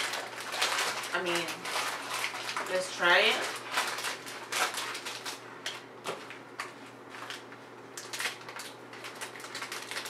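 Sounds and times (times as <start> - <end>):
plastic chip bag crinkling: 0.0 - 10.0.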